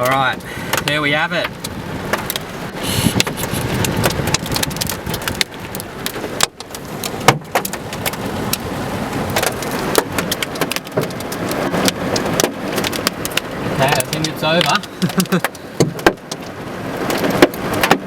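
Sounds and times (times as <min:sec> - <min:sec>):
hailstones knocking: 0:00.0 - 0:18.0
rain hiss: 0:00.0 - 0:18.0.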